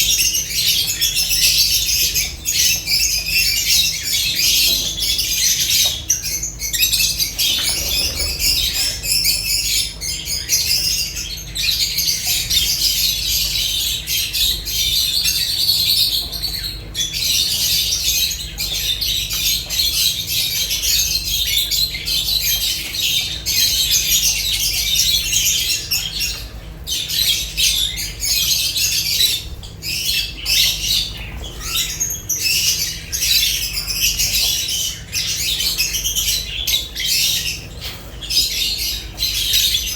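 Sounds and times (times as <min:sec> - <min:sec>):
lovebirds chattering and squawking: 0:00.0 - 0:39.9.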